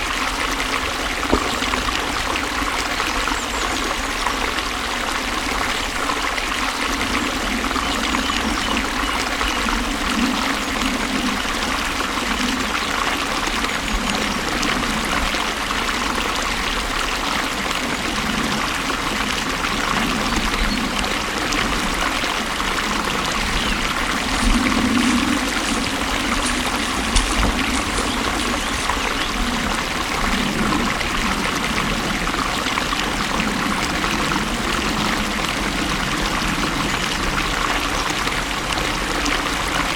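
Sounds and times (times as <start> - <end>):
stream water flowing and splashing: 0.0 - 39.9.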